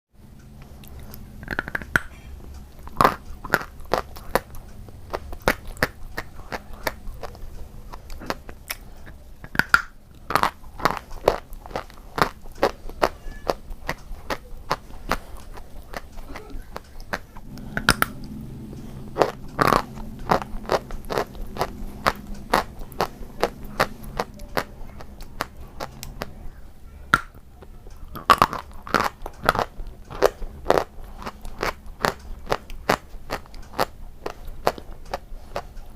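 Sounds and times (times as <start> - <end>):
faint low hum: 0.2 - 35.9.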